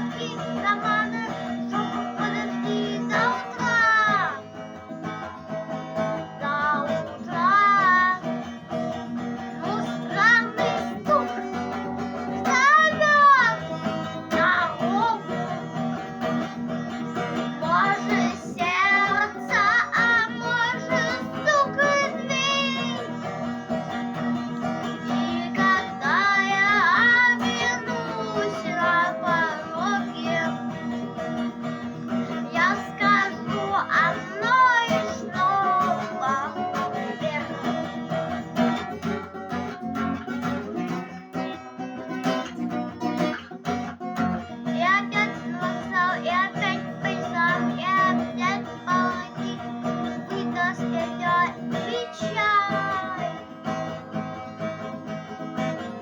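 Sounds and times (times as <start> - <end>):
guitar accompaniment: 0.0 - 56.0
person singing: 0.0 - 56.0.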